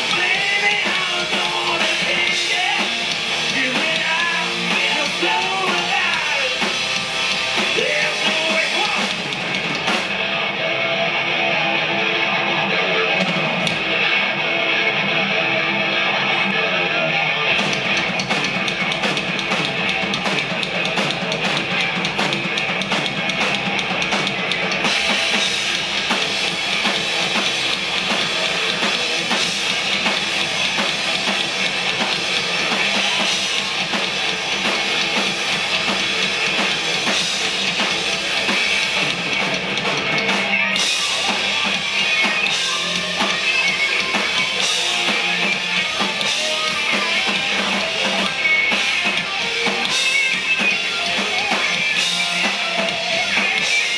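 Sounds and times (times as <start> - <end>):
hard rock band playing live: 0.0 - 53.9.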